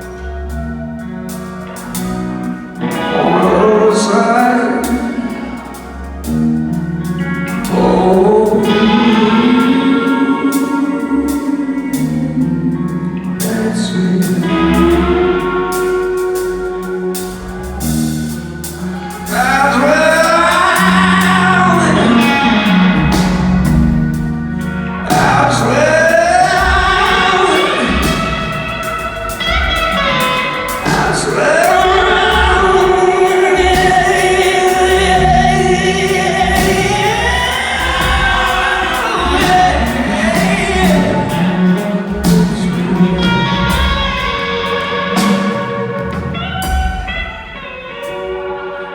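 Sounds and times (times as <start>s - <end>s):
rock band playing slow song: 0.0s - 48.9s
person singing long held notes: 7.4s - 46.6s.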